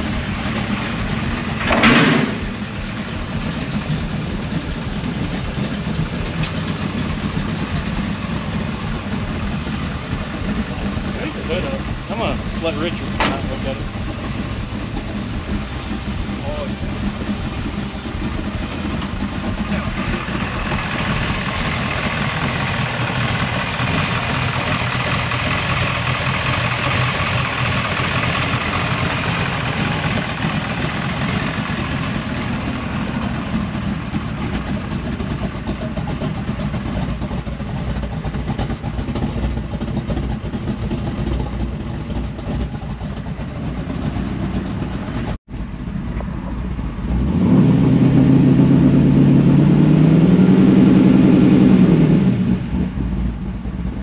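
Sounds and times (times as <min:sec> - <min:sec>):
vee-eight engine running: 0:00.0 - 0:54.0.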